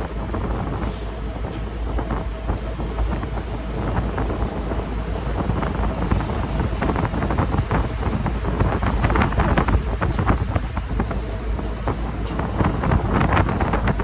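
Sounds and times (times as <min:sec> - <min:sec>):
boat engine low rumble: 0:00.0 - 0:14.0
water rushing along hull: 0:00.0 - 0:14.0
wind buffeting microphone: 0:00.0 - 0:14.0.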